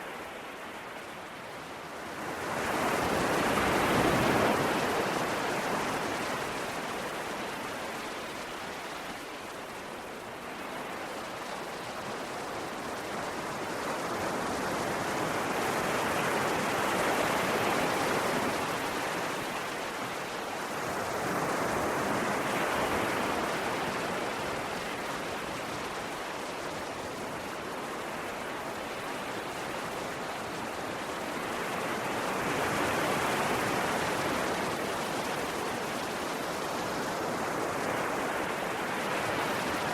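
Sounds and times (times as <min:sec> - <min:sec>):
ocean waves breaking: 0:02.0 - 0:39.9.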